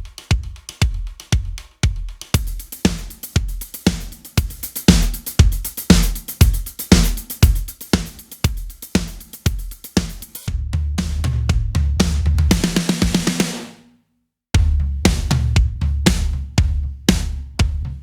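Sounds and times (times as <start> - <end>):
drum kit beat: 0.0 - 13.8, 14.6 - 18.0.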